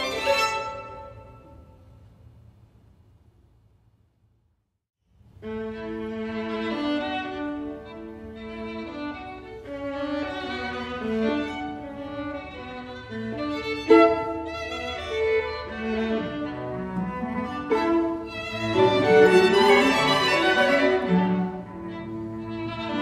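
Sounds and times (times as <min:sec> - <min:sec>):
string quartet playing: 0:00.0 - 0:01.6, 0:05.4 - 0:23.0.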